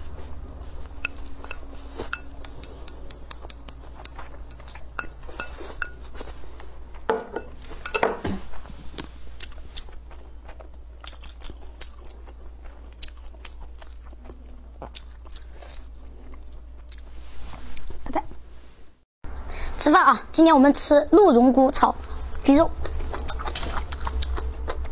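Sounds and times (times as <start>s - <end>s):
person chewing food: 0.0s - 7.9s, 8.8s - 18.0s, 22.0s - 24.9s.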